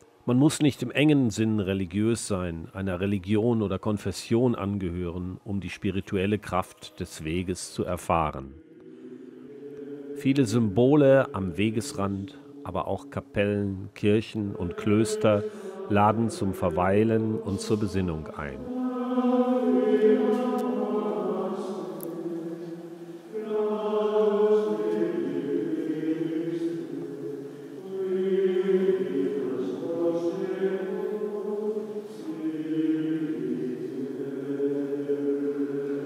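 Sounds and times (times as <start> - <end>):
choir singing a slow chant: 5.6 - 36.0.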